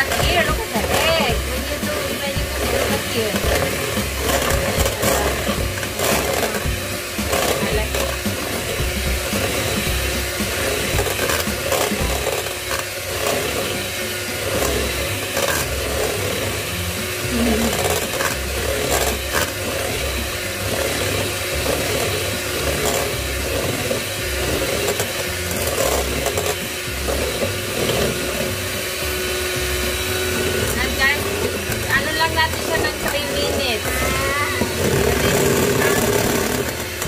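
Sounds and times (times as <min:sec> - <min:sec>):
electric hand mixer whisking: 0:00.0 - 0:37.0.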